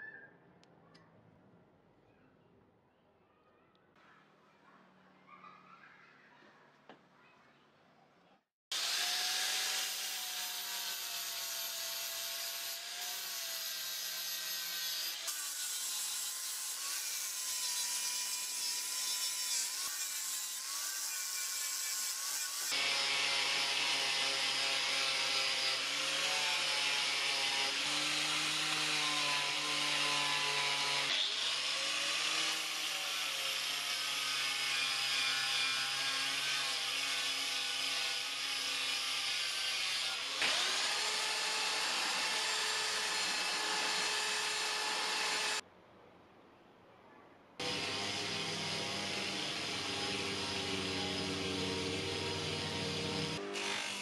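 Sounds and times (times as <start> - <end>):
angle grinder grinding metal: 8.7 - 45.6, 47.6 - 54.0.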